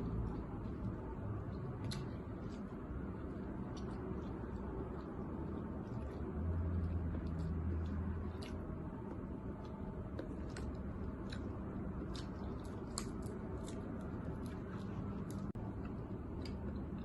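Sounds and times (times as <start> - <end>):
chewing and squishing: 0.0 - 17.0
steady low hum: 0.0 - 17.0.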